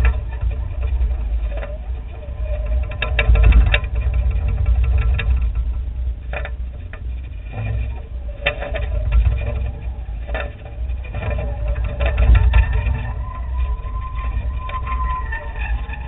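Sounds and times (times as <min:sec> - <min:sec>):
faint motor hum: 0:00.0 - 0:16.0
wind buffeting microphone: 0:00.0 - 0:16.0.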